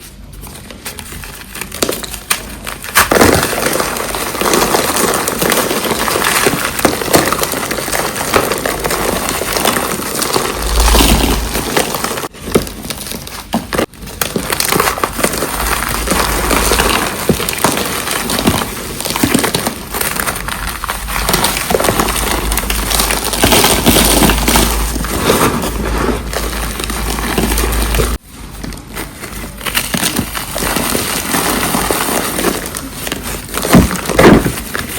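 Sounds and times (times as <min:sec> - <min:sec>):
cornstarch crunching and crumbling: 0:00.0 - 0:34.9.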